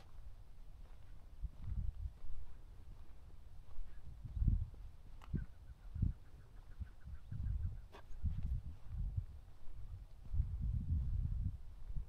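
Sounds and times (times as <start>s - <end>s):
footsteps on dirt trail: 0.0s - 6.8s, 7.4s - 12.0s
low microphone rumble: 0.8s - 12.0s.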